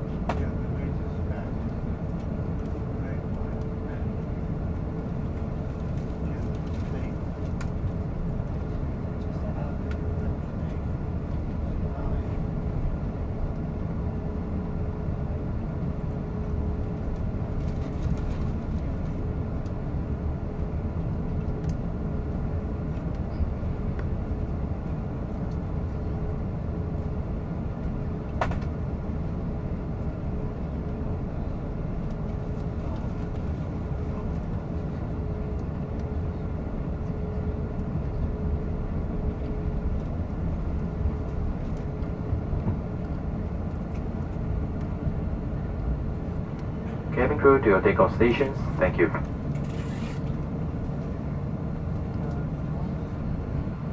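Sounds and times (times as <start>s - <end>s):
jet engines low rumble: 0.0s - 53.9s.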